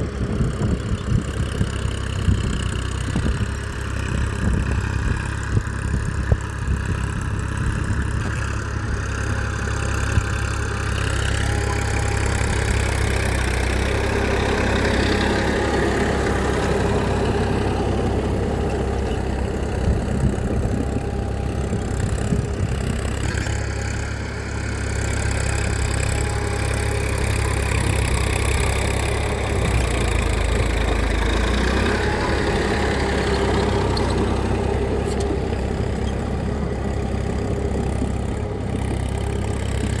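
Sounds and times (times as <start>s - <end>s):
motor running steadily: 0.0s - 40.0s.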